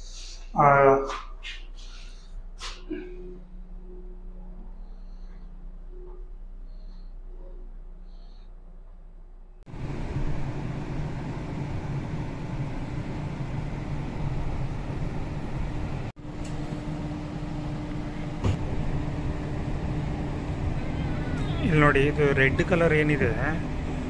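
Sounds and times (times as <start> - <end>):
steady hum: 0.0 - 24.0
tram running gear rumble: 2.6 - 24.0.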